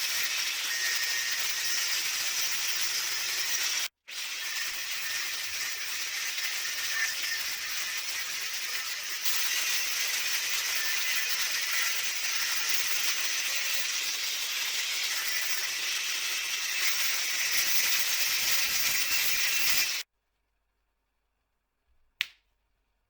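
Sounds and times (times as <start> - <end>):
angle grinder cutting steel: 0.0 - 20.1.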